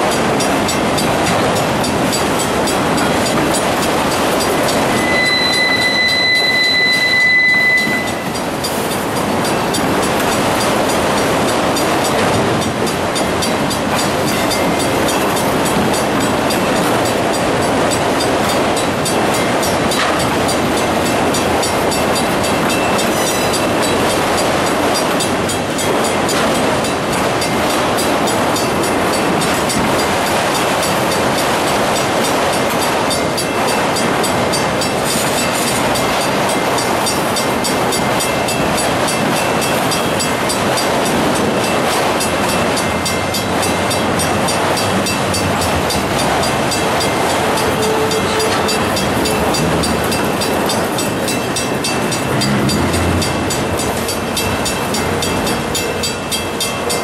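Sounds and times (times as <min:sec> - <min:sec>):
crossing signal bell ringing: 0:00.0 - 0:57.0
freight train wheels on rails: 0:00.0 - 0:57.0.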